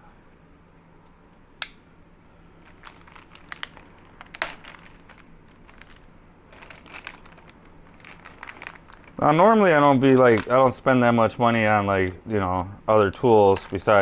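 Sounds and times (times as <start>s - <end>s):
plastic bag crinkling: 2.6s - 14.0s.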